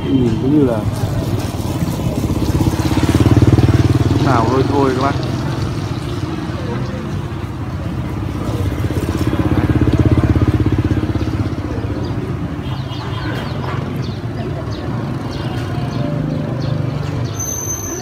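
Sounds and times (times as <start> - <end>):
street traffic hum: 0.0 - 18.0
motorbike engine passing: 0.5 - 18.0.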